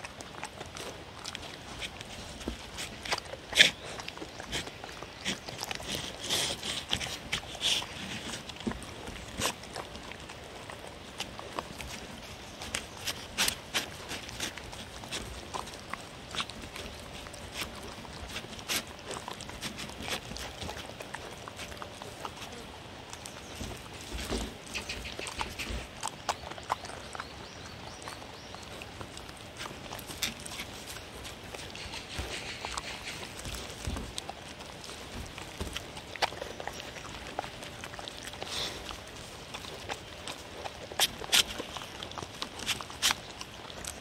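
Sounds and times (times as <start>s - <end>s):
dogs licking and chewing: 0.0s - 44.0s.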